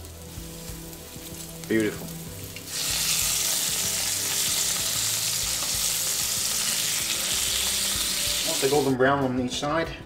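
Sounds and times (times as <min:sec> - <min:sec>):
chicken sizzling in oil: 0:00.0 - 0:08.9.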